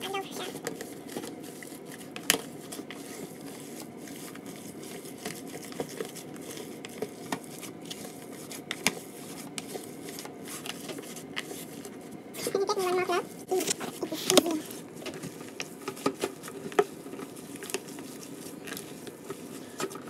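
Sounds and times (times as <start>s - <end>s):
squishing ground meat: 0.3s - 20.0s.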